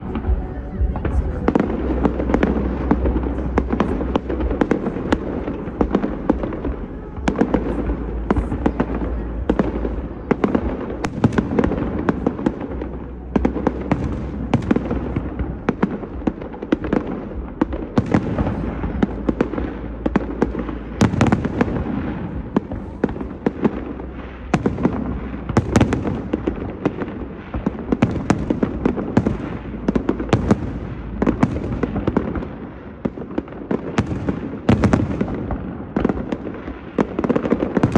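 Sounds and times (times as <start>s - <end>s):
fireworks banging and crackling: 0.0s - 37.9s.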